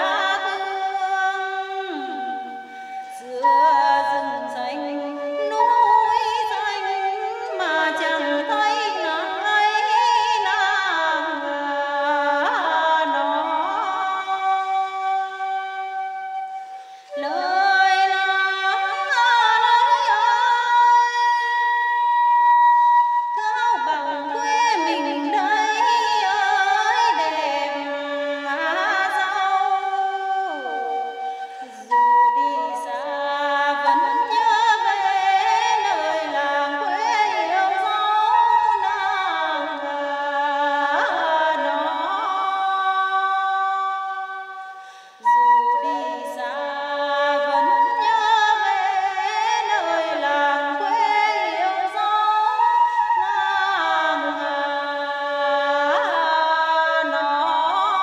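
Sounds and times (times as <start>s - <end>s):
woman singing: 0.0s - 16.4s, 17.1s - 22.6s, 23.2s - 58.0s.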